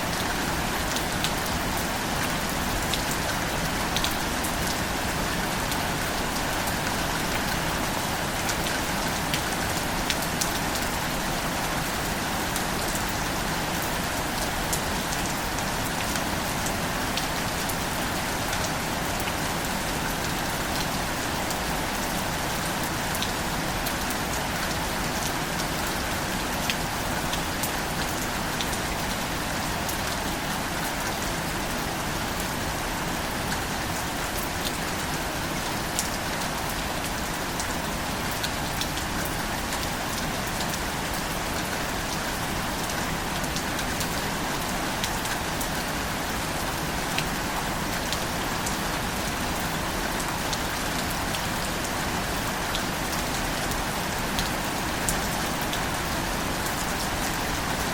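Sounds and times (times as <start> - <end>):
rain hissing on a surface: 0.0 - 57.9.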